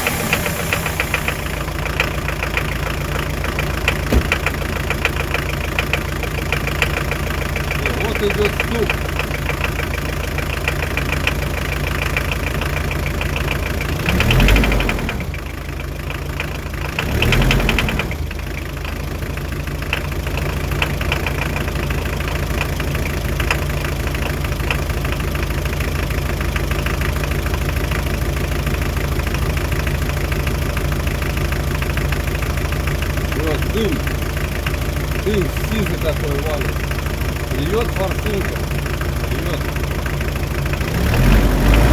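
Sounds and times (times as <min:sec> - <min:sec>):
diesel engine idling with knock: 0:00.0 - 0:41.9.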